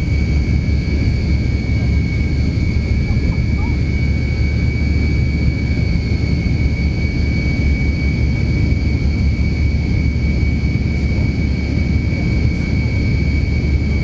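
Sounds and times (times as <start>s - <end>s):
airliner cabin engine rumble: 0.0s - 14.0s
high jet engine whine: 0.0s - 14.0s.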